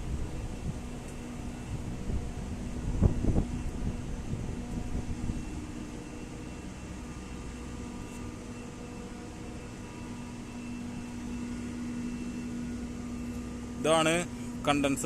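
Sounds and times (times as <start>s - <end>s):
chiller machine humming: 0.0s - 15.0s.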